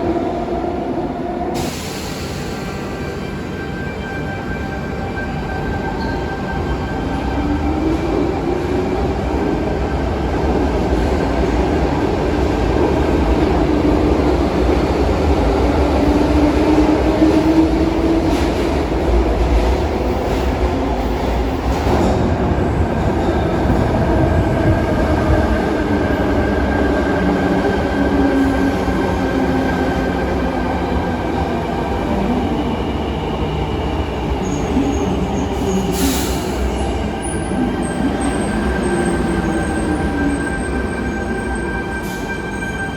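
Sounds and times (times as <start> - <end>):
train rumble: 5.0 - 42.9.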